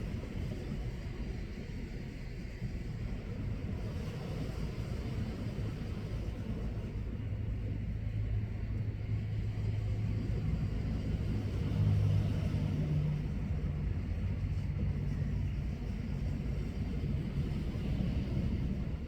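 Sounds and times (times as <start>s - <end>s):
vehicle engine running at low revs: 0.0s - 19.0s.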